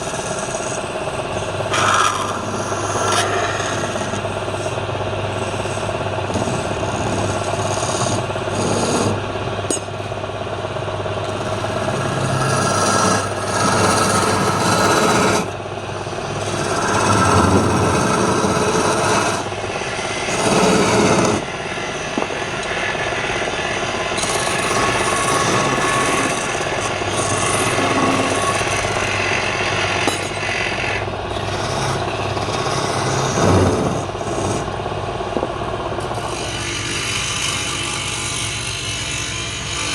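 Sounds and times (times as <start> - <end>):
rasping of wood being turned: 0.0 - 10.3, 11.1 - 39.9
wood lathe motor hum: 0.0 - 39.9.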